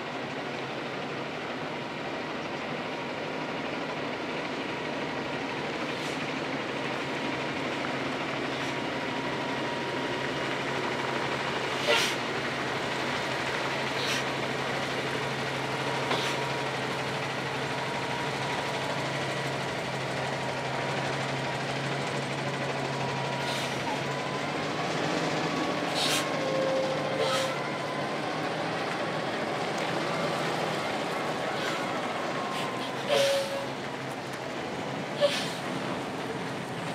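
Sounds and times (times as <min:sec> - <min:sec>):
truck diesel engine running: 0:00.0 - 0:36.9.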